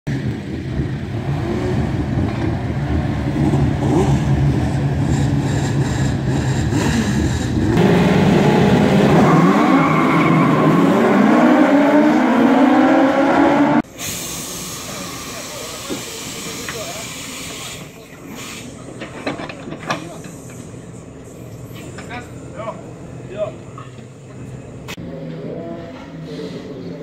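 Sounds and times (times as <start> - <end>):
race car engines revving: 0.1 - 13.9, 14.8 - 27.0.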